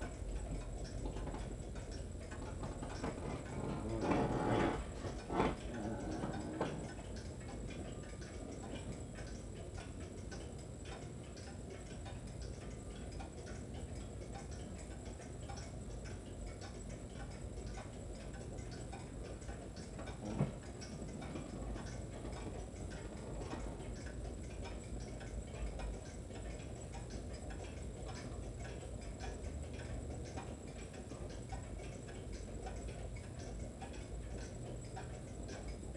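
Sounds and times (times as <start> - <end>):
clock ticking: 0.0 - 35.9.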